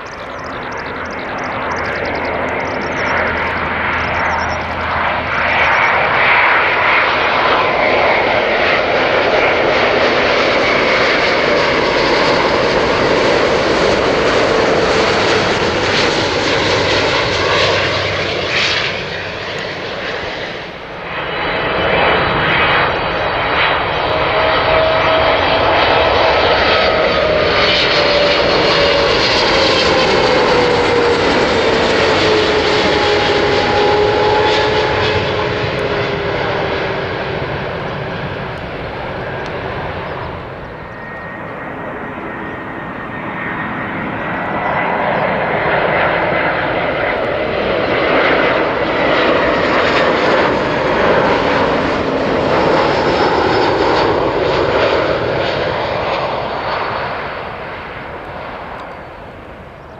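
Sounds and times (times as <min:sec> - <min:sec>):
jet airliner roaring overhead: 0:00.0 - 0:59.9.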